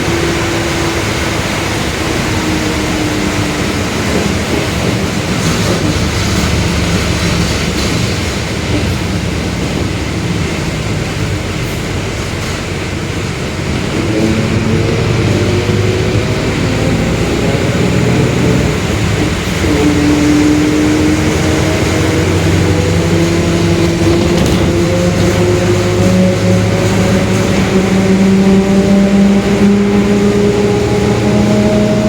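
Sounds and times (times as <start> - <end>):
bus engine and road noise: 0.0 - 32.0.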